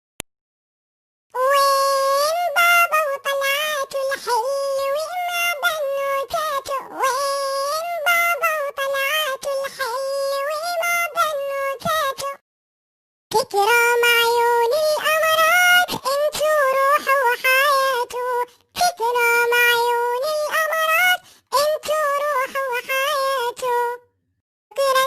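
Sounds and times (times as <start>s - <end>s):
synthetic singing voice: 1.3s - 12.4s, 13.3s - 24.1s, 24.7s - 25.0s.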